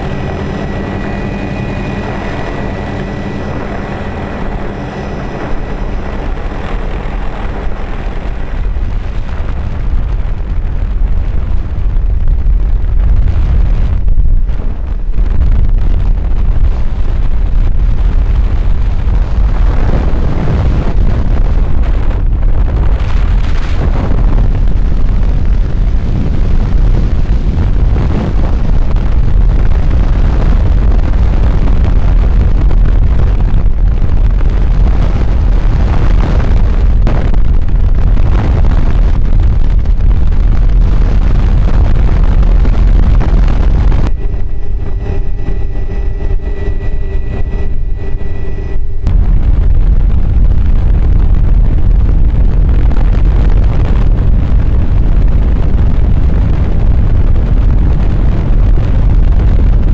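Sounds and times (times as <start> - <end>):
helicopter rotor and engine rumble: 0.0 - 51.1
wind noise: 0.0 - 59.9.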